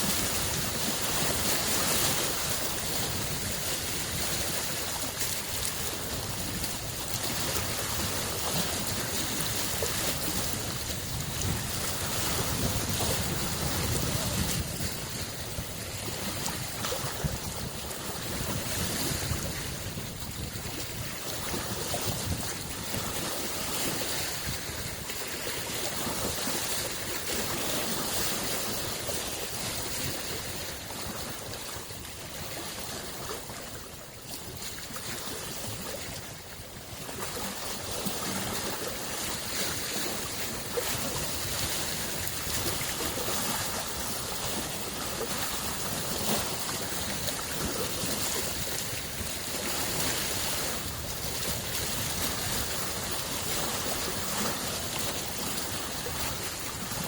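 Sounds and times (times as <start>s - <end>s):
lake waves washing on shore: 0.0s - 57.0s.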